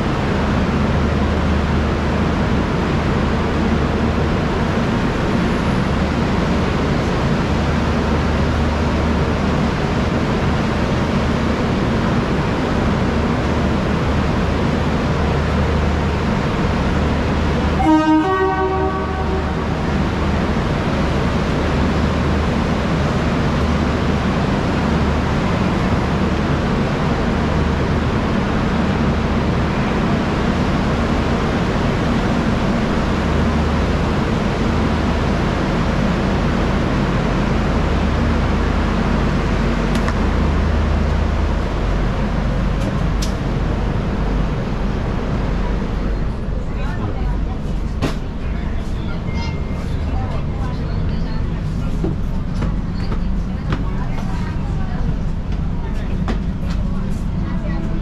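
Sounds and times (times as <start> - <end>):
station platform hum and hiss: 0.0 - 58.0.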